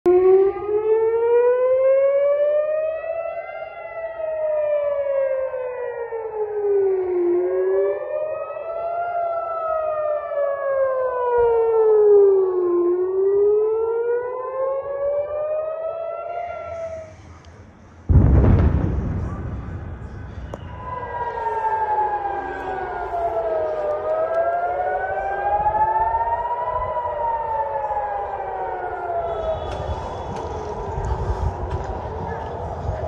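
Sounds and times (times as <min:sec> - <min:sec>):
air-raid sirens wailing: 0:00.0 - 0:33.0.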